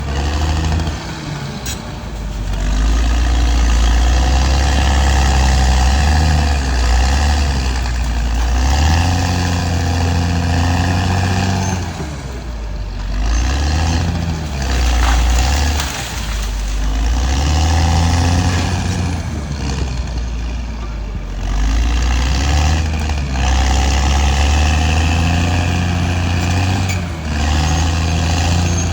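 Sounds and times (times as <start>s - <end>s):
bulldozer diesel engine under load: 0.0s - 28.9s.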